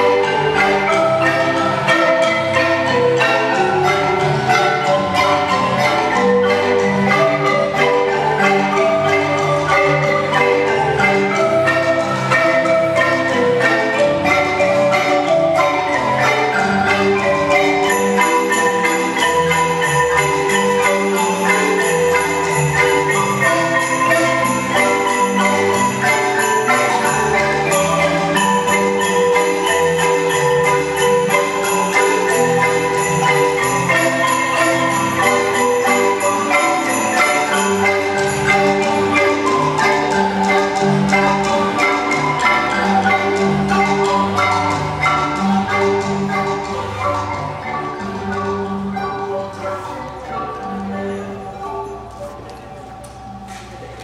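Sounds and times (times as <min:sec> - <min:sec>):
marimba ensemble playing: 0:00.0 - 0:54.0.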